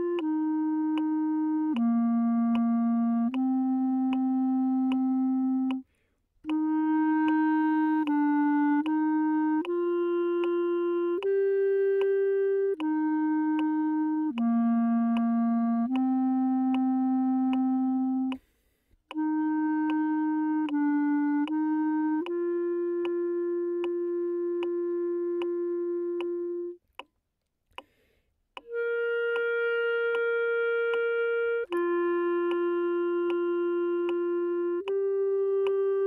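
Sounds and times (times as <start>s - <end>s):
solo clarinet melody: 0.0s - 18.5s, 19.1s - 26.8s, 28.6s - 36.0s.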